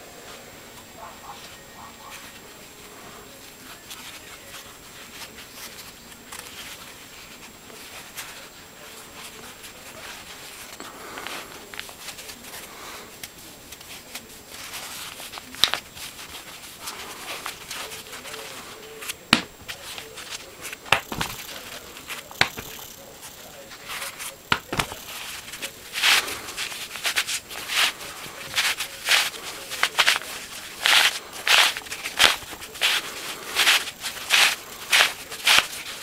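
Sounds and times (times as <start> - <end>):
fabric rustling and scraping: 0.0 - 36.0.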